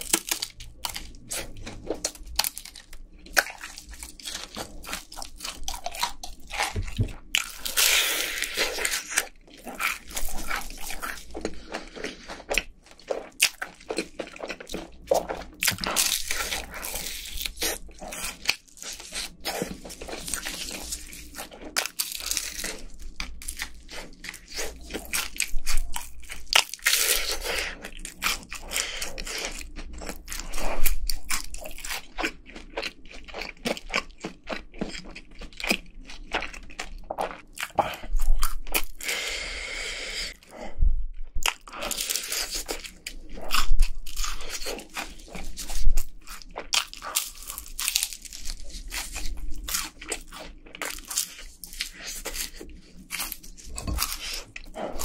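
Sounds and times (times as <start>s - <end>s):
crunching fried chicken: 0.0s - 39.4s, 41.4s - 55.0s.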